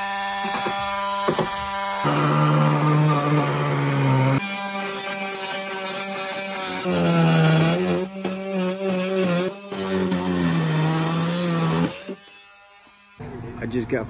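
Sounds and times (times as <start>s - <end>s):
oscillating multi-tool cutting: 0.0s - 13.2s.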